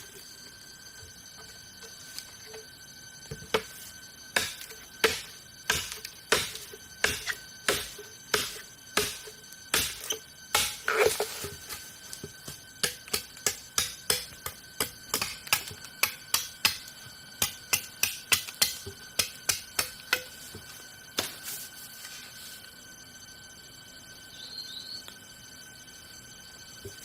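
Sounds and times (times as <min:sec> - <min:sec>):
faint steady high tone: 0:00.0 - 0:18.0, 0:18.8 - 0:27.0.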